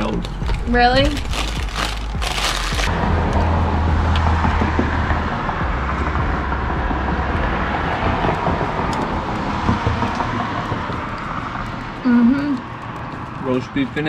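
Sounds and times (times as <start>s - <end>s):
car running hum: 0.0s - 14.0s.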